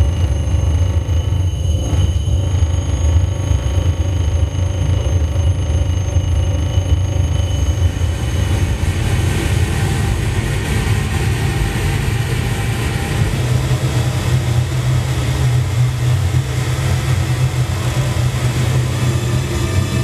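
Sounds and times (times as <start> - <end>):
dense low drone: 0.0 - 20.0.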